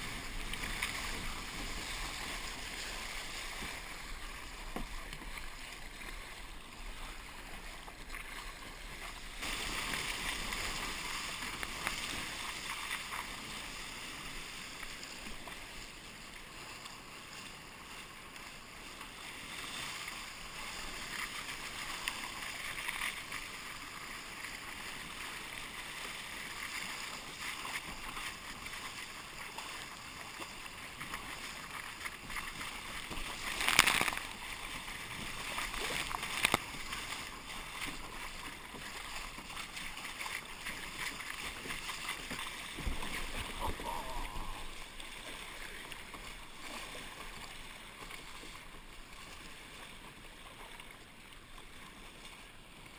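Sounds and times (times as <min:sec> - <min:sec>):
water splashing around kayak: 0:00.0 - 0:52.9.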